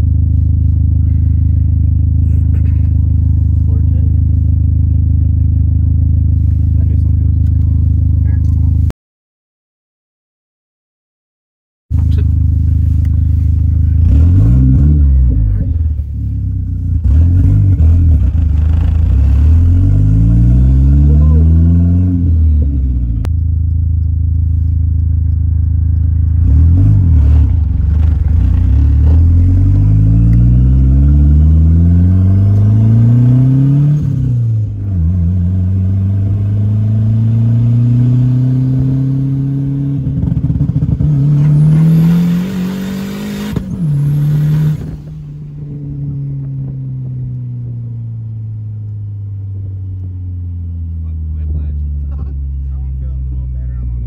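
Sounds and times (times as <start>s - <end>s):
car engine accelerating: 0.0s - 8.9s, 11.9s - 54.0s.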